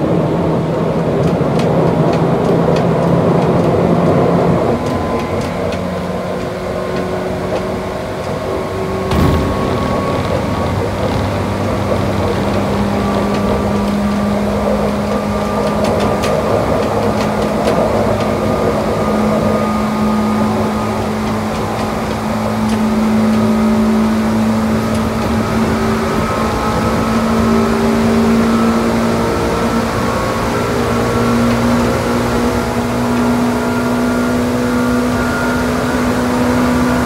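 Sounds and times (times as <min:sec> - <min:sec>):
electric train motor whine: 0:00.0 - 0:37.0.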